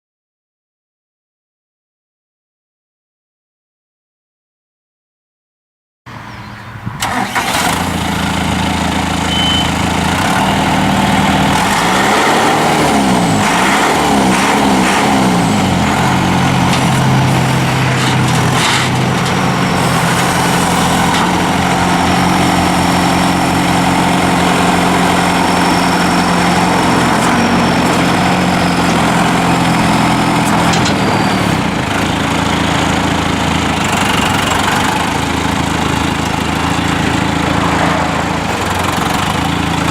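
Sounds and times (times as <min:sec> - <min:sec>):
tractor diesel engine starting and idling: 0:06.1 - 0:39.9.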